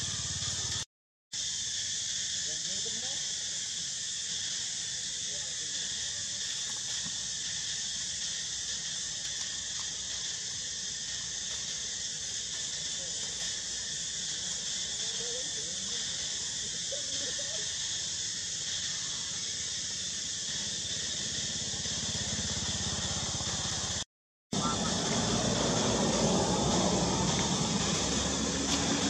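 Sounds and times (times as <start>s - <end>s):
high-pitched insect chorus buzzing: 0.0s - 29.0s.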